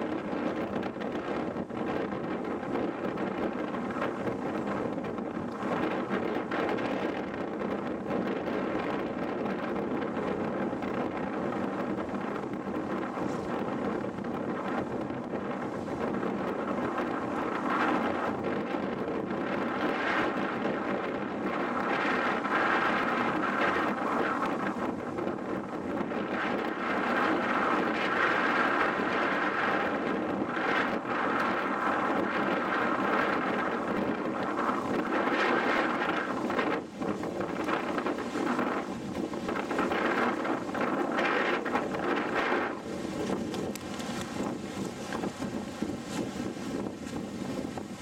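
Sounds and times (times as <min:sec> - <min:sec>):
gusty wind buffeting microphone: 0:00.0 - 0:48.0.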